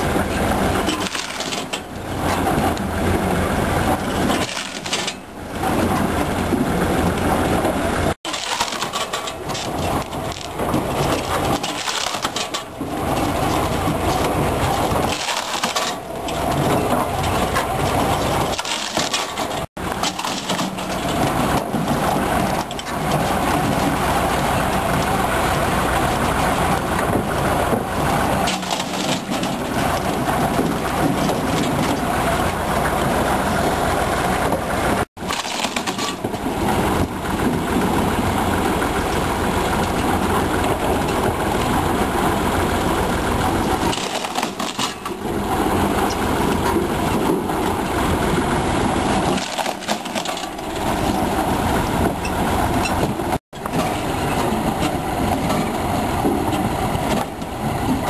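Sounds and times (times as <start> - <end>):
firewood processor machine drone: 0.0 - 58.0
wood cracking and crushing: 0.0 - 58.0.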